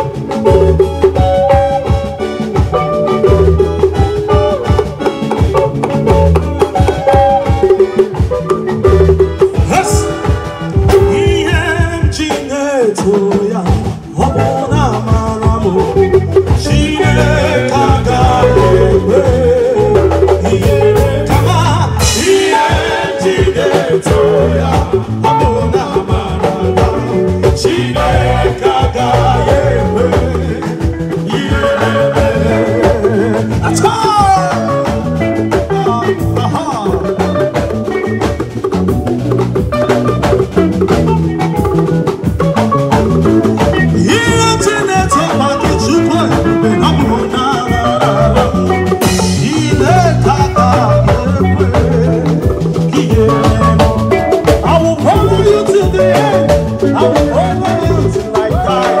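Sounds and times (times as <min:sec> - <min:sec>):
drum kit beat: 0:00.0 - 0:59.0
live band playing: 0:00.0 - 0:59.0.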